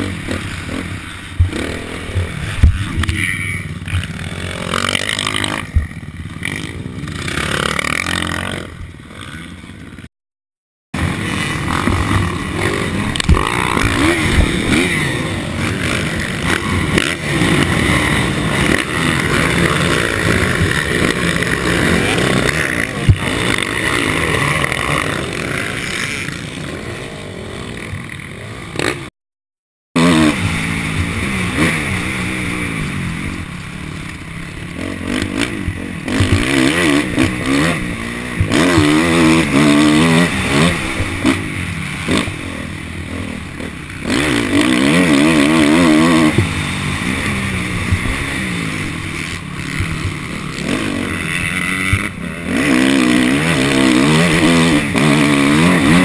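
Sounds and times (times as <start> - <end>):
dirt noise: 0.0 - 10.1, 11.0 - 29.1, 30.0 - 56.0
motocross bike engine revving: 0.0 - 10.1, 11.0 - 29.1, 30.0 - 56.0.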